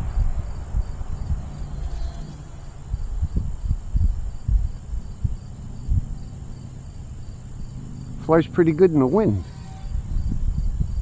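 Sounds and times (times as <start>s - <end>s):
crickets chirping: 0.0s - 11.0s
gusty wind buffeting microphone: 0.0s - 11.0s.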